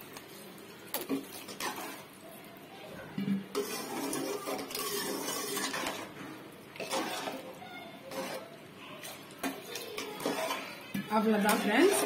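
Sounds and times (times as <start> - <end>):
liquid sloshing in pot: 0.0 - 2.2, 3.2 - 12.0
ladle scraping metal pot: 1.1 - 2.1, 3.2 - 12.0.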